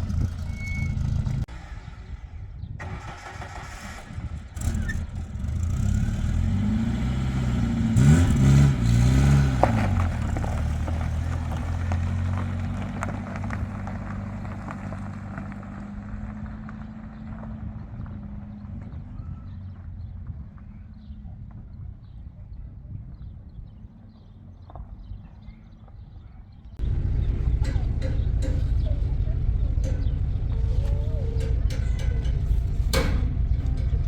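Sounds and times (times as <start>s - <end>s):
vehicle engine revving: 0.0s - 21.2s, 26.8s - 34.0s.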